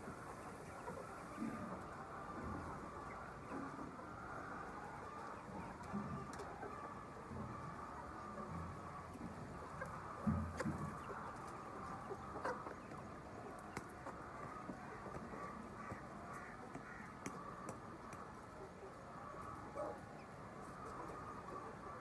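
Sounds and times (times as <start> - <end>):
poultry flock chattering: 0.0 - 22.0.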